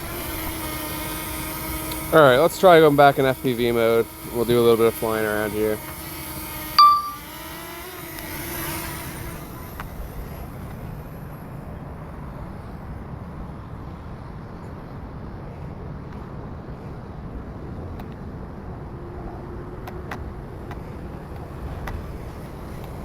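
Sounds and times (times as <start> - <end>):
road traffic rumble: 0.0 - 6.8, 7.6 - 23.0.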